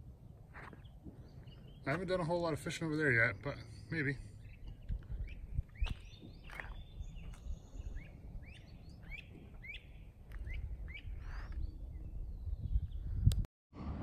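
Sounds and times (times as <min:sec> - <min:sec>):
songbird chirping: 0:00.3 - 0:13.4.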